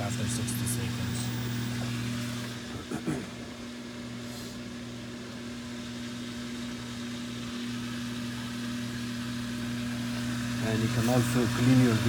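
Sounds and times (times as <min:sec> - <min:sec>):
washer drain pump humming: 0:00.0 - 0:12.0.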